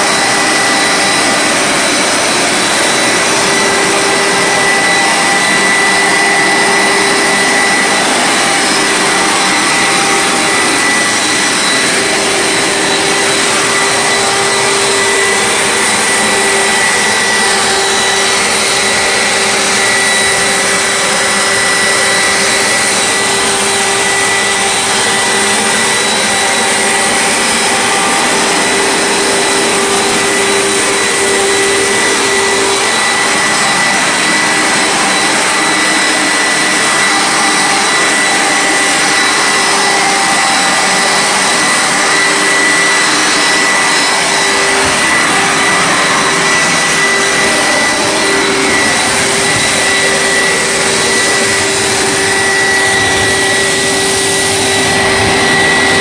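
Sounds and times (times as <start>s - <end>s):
carpet cleaner motor whine: 0.0s - 56.0s.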